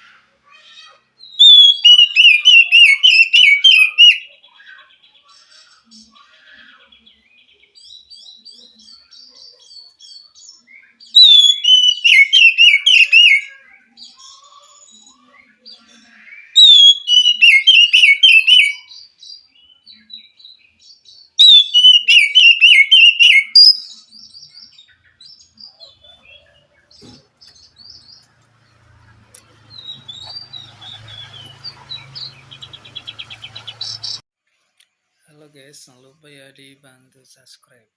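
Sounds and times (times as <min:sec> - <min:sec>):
bird singing whistles and warbles: 0:01.2 - 0:05.2, 0:06.8 - 0:28.4, 0:29.4 - 0:34.2
soft bird twittering: 0:01.2 - 0:34.2.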